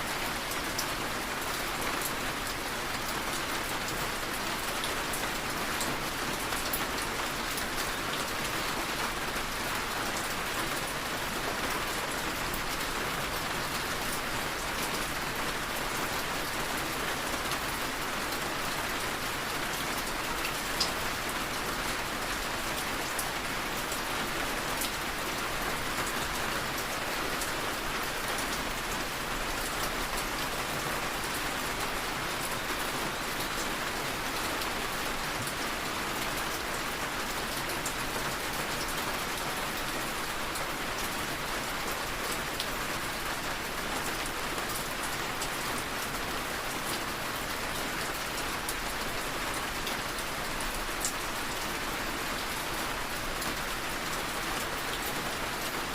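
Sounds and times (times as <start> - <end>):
rain pattering on a window: 0.0 - 55.9.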